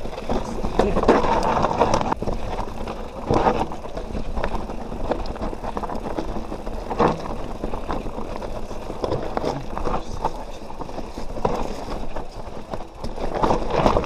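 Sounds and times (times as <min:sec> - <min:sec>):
bike rattling and knocking: 0:00.0 - 0:14.0
bike tyres on dirt and rock: 0:00.0 - 0:14.0.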